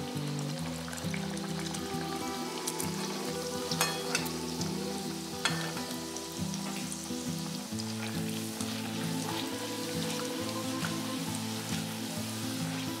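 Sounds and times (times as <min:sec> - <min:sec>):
pastry sizzling in hot oil: 0:00.0 - 0:13.0.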